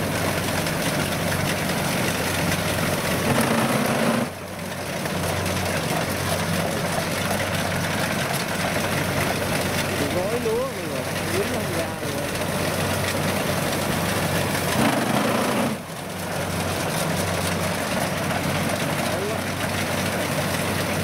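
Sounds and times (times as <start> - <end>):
combine harvester engine running: 0.0 - 21.0.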